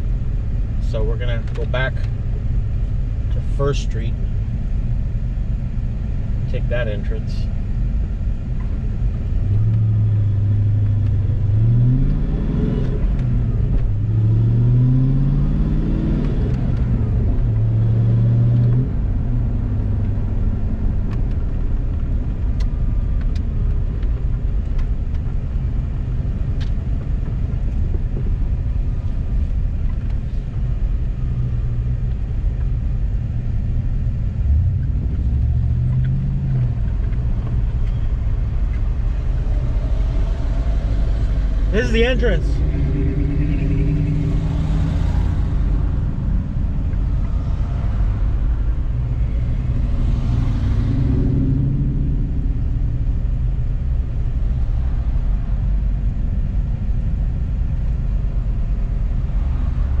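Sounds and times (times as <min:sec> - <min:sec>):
road rumble: 0:00.0 - 1:00.0
car engine accelerating: 0:07.7 - 1:00.0.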